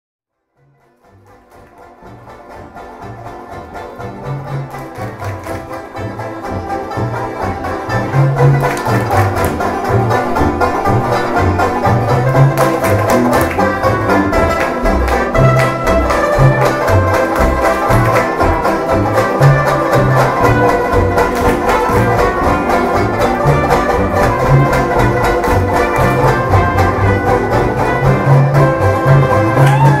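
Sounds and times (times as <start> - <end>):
upbeat banjo band music: 0.6 - 30.0
pulsing bass line: 2.0 - 30.0.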